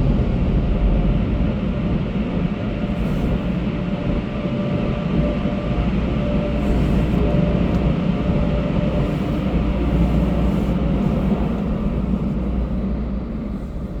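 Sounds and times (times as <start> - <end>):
car wash machinery rumbling: 0.0 - 14.0.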